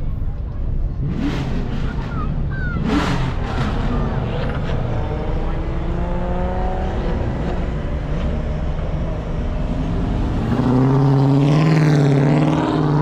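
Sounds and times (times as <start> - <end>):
car engines rumbling: 0.0 - 13.0
car engine accelerating: 0.9 - 13.0.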